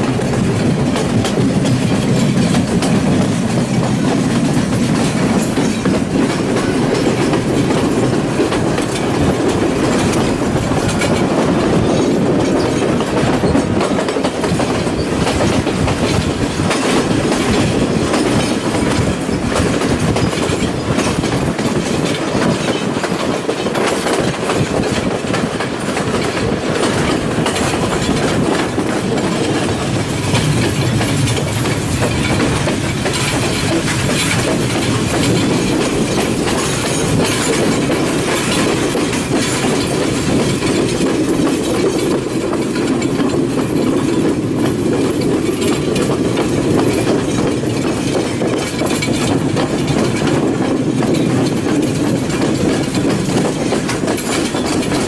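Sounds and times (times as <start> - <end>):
train rumble: 0.0 - 55.0
wheels clicking over rail joints: 0.0 - 55.0.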